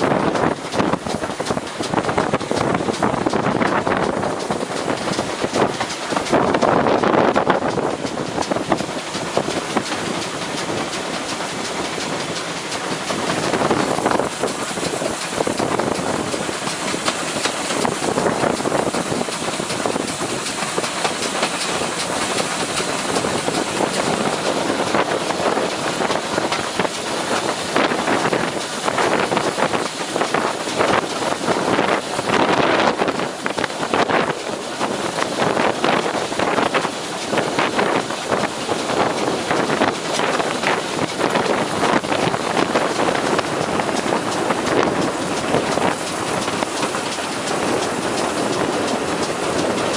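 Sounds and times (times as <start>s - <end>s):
train rumble and hiss: 0.0s - 49.9s
wheels clattering over rails: 0.0s - 49.9s.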